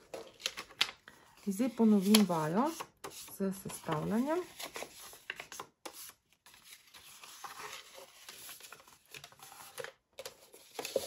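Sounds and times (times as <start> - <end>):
card stock rustling and folding: 0.0 - 11.0.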